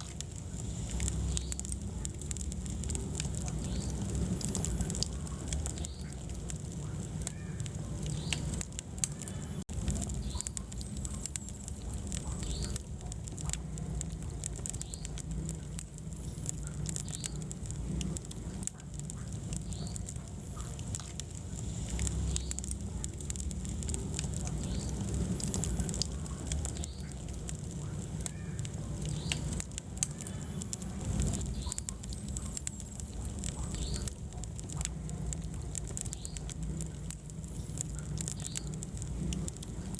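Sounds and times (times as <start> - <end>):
fire popping and crackling: 0.0 - 39.9
low rumble of flames: 0.0 - 39.9.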